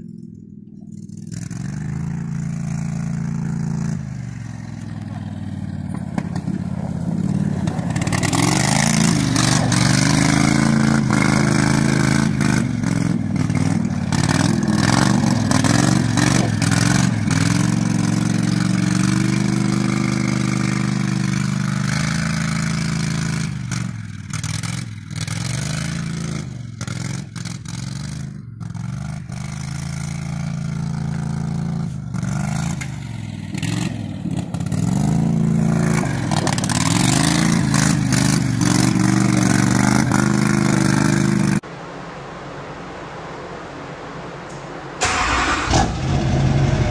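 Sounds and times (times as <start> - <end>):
utility vehicle engine revving: 0.0 - 46.9.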